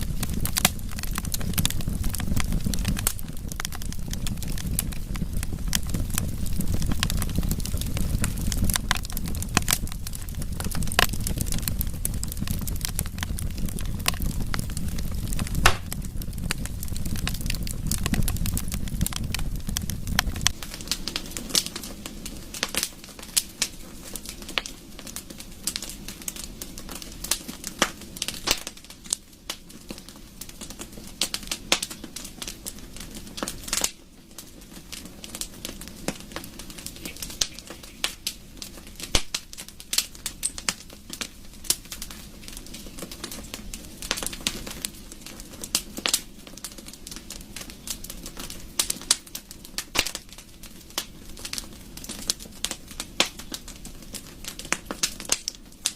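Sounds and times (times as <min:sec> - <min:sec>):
low hiss of flames: 0:00.0 - 0:55.9
pops and snaps of burning wood: 0:00.0 - 0:55.9
wood fire crackling: 0:00.0 - 0:55.9.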